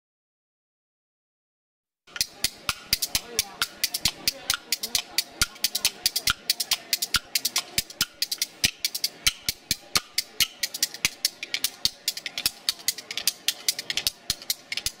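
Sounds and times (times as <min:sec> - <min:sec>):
clicking percussion: 0:02.1 - 0:15.0.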